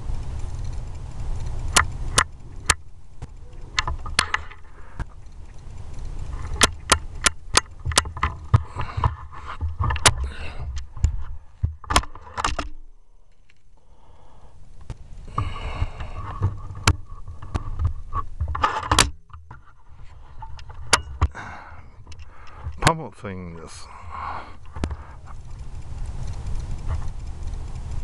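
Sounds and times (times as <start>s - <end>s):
low rumble: 0.0s - 18.5s, 19.2s - 28.0s.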